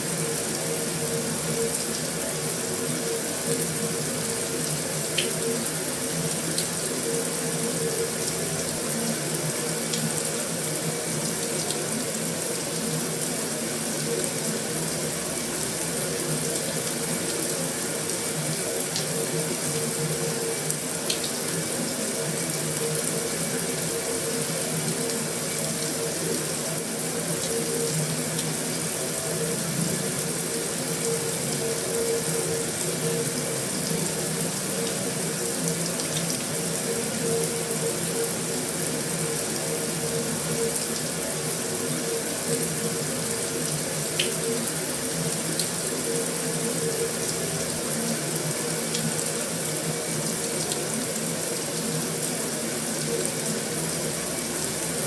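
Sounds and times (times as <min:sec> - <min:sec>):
heavy rain on a metal roof: 0:00.1 - 0:55.0.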